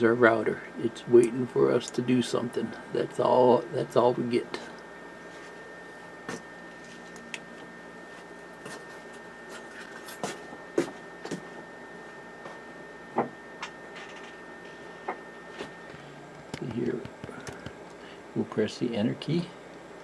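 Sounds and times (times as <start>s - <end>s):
equipment humming with whine: 0.0s - 20.0s.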